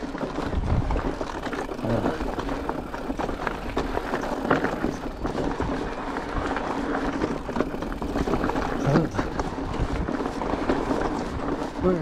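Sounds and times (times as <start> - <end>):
bike rattling: 0.0 - 12.0
tyres crunching over loose rocks: 0.0 - 12.0.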